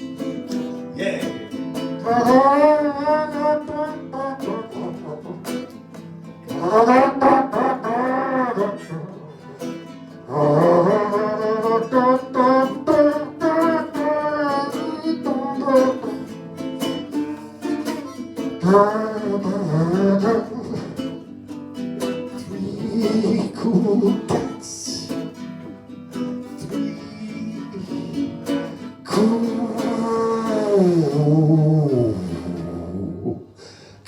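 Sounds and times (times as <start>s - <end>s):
ukuleles strumming: 0.0s - 33.4s.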